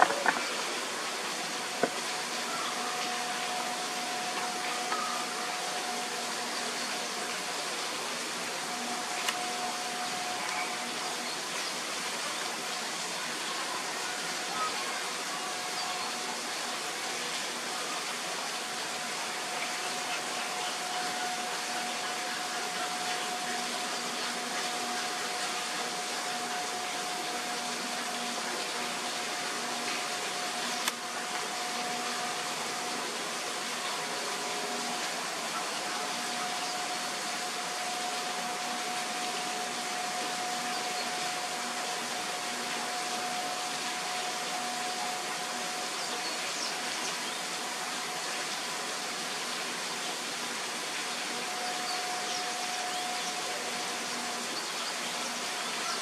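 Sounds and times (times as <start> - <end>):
steady hiss: 0.0 - 56.0
thin steady tone: 0.0 - 56.0.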